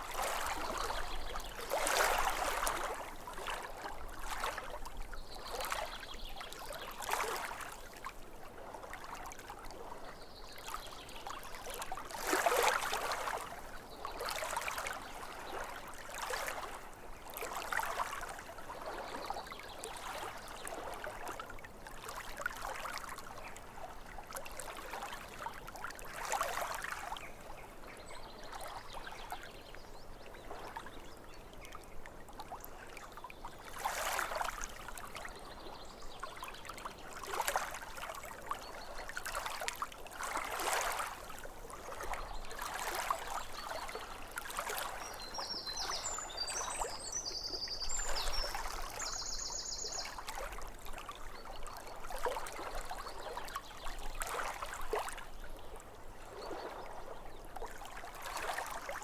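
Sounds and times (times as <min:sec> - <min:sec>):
lake waves lapping at shore: 0:00.0 - 0:59.0.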